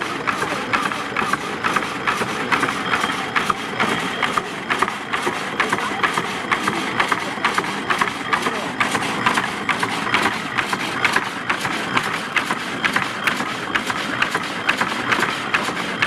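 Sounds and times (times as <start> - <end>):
drag saw gearing clattering: 0.0 - 16.0.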